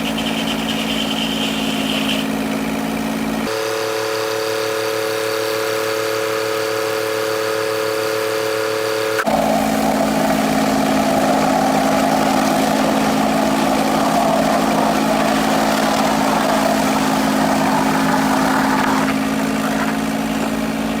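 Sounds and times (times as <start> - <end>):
sawmill machinery hum: 0.0 - 21.0
whirring rushing machinery: 0.0 - 21.0.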